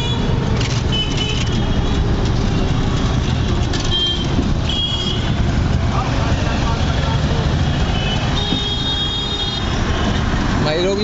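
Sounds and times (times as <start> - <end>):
traffic rumble from moving vehicle: 0.0 - 11.0.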